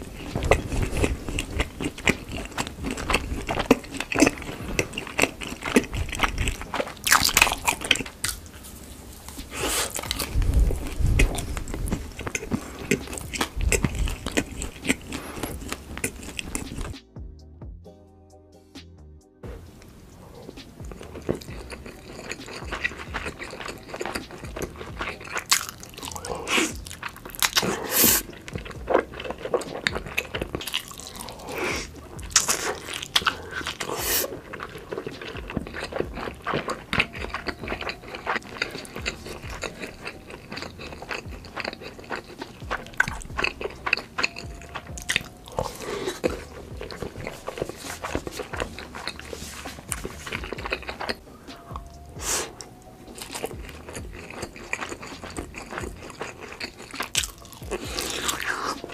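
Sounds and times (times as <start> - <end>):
biting and crunchy chewing: 0.0 - 17.0, 20.2 - 58.9.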